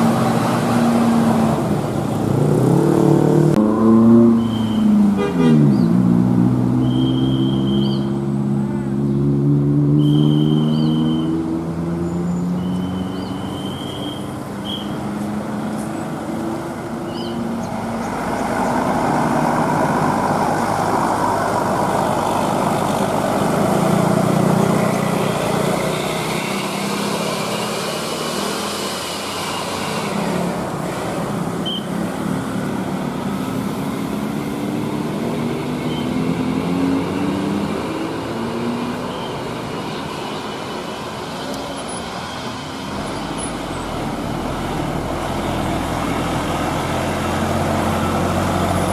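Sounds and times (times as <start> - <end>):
heavy vehicle engine drone: 0.0 - 48.9.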